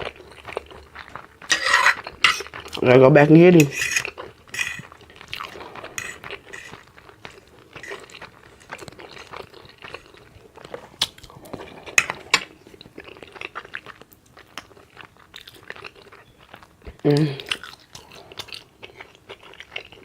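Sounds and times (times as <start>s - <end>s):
open-mouth chewing: 0.0s - 2.8s, 4.0s - 20.0s.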